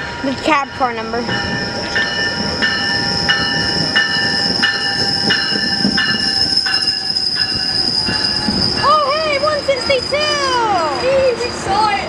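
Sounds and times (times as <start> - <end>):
train cars rumbling: 0.0 - 12.0
ringing tone: 0.2 - 11.3
steady high squeal: 1.2 - 11.8.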